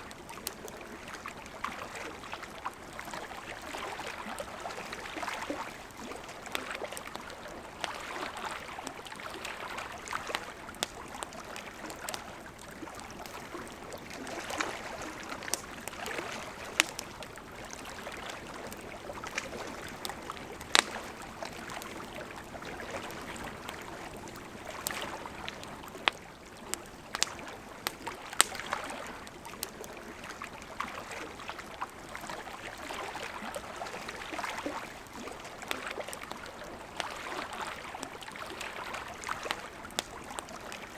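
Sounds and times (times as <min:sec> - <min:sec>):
campfire crackling and popping: 0:00.0 - 0:40.9
river flowing: 0:00.0 - 0:40.9.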